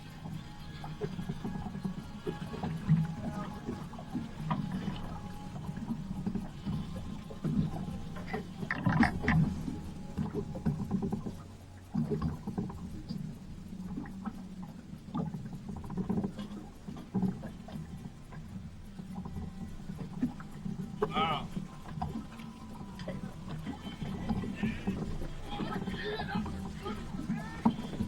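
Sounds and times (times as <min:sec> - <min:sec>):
boat engine low rumble: 0:00.0 - 0:28.0.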